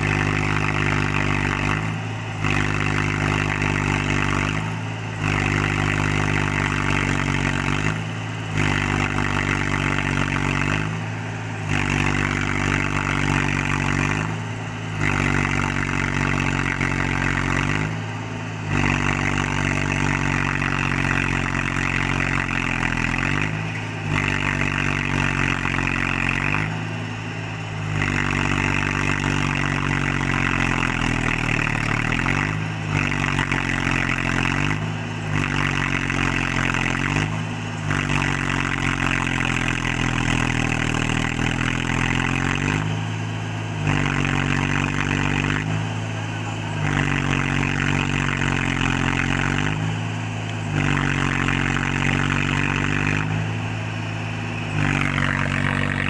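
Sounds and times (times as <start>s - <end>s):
tractor diesel engine straining: 0.0s - 56.0s.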